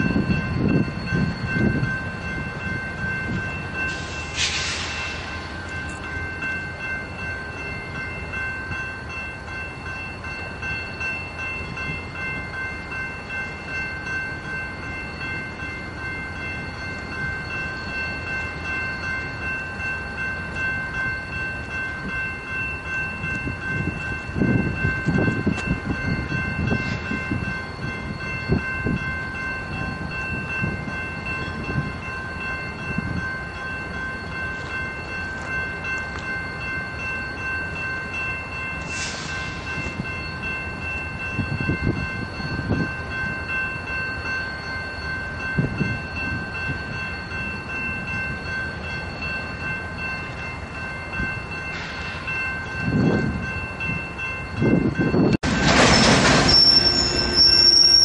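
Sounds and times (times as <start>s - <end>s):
crossing warning bell ringing: 0.0s - 58.0s.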